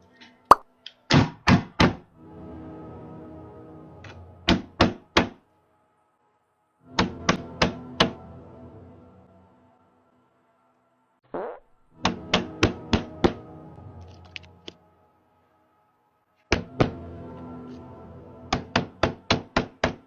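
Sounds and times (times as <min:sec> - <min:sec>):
quiet background music: 0:00.0 - 0:20.0.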